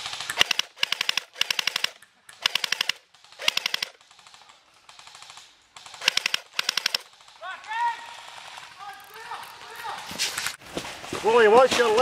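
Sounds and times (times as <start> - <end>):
airsoft gun full-auto bursts: 0.0 - 9.7.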